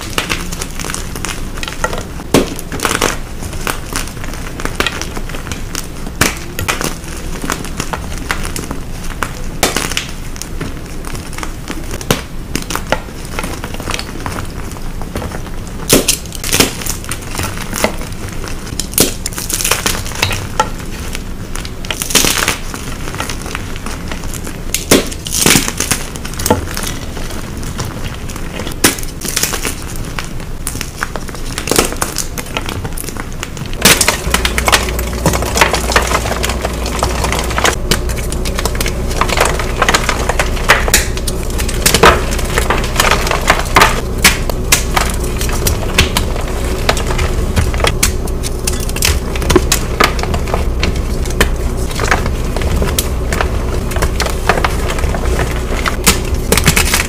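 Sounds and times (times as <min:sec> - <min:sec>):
chalk being crushed: 0:00.0 - 0:57.0
steady low hum: 0:00.0 - 0:57.0.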